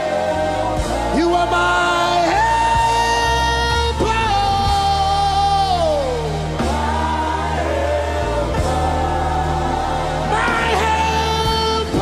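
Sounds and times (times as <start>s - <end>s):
deep bass: 0.0s - 12.0s.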